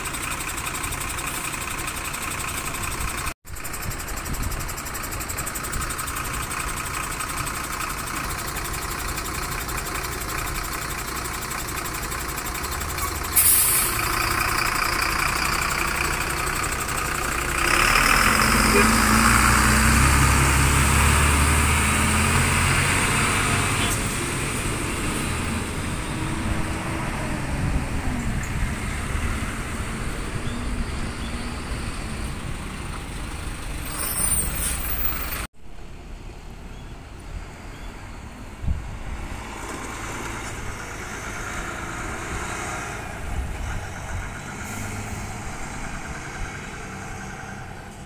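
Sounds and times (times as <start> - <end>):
diesel engine idling: 0.0 - 39.3, 40.1 - 48.0.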